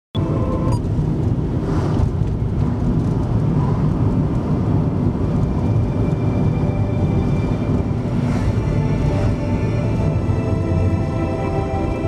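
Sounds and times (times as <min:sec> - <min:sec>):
road noise: 0:00.1 - 0:12.0
car engine running: 0:00.2 - 0:12.0.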